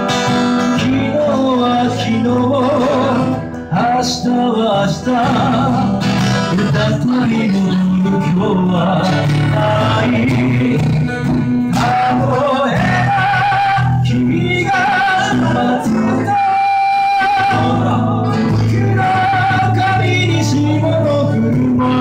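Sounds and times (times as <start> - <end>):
acoustic guitars strummed: 0.0 - 22.0.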